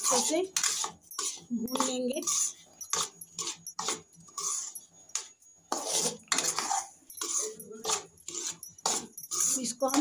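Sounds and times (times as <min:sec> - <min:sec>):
metal spoon scraping a pan: 0:00.0 - 0:10.0.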